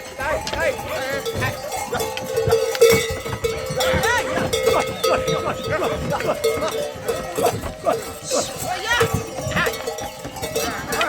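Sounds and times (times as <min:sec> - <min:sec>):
goat bells clanking: 0:00.0 - 0:11.0
knocking clatter: 0:00.0 - 0:11.0.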